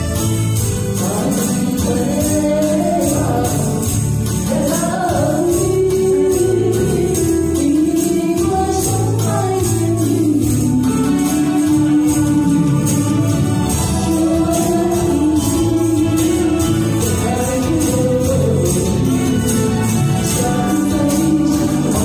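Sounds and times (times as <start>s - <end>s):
karaoke backing track: 0.0s - 22.0s
tambourines shaking: 0.0s - 22.0s
woman singing pop song: 1.0s - 22.0s.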